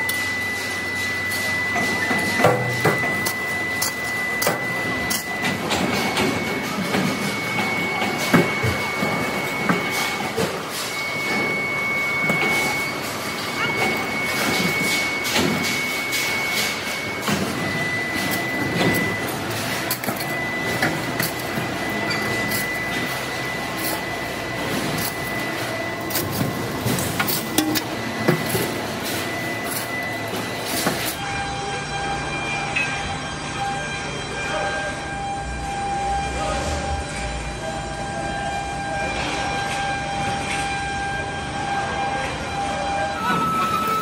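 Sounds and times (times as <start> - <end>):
factory machinery whining: 0.0 - 44.0.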